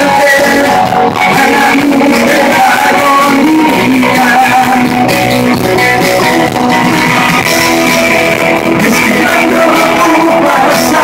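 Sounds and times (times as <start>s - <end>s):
man singing: 0.0s - 6.1s, 7.7s - 11.0s
bass guitar: 0.0s - 11.0s
electric guitar: 0.0s - 11.0s.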